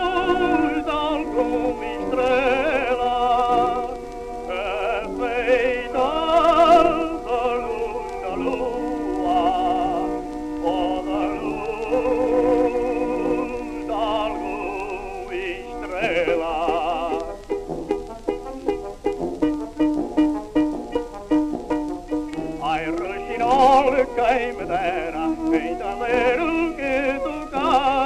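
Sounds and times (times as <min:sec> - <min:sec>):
old song recording: 0:00.0 - 0:28.0.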